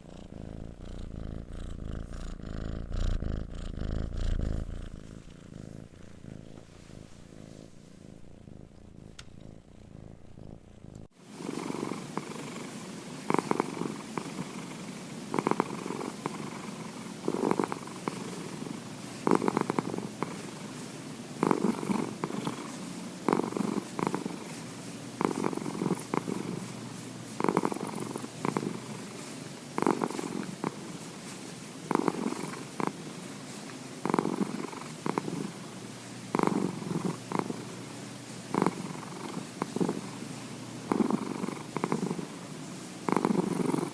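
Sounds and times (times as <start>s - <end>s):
cat purring: 0.0s - 43.9s.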